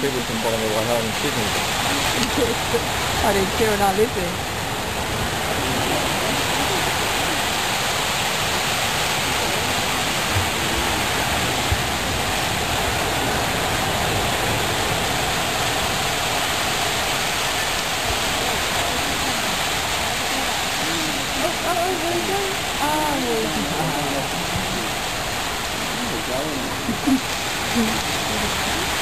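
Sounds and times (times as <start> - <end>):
steady rushing hiss: 0.0 - 29.0.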